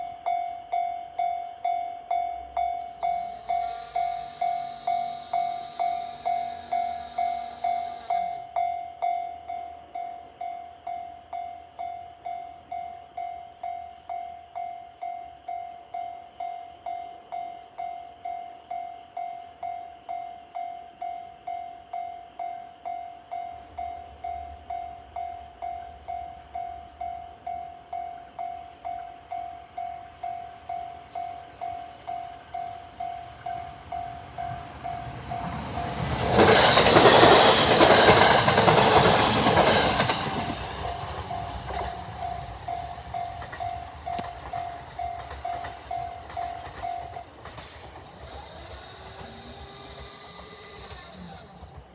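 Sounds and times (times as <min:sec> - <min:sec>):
level-crossing warning bell: 0:00.0 - 0:47.6.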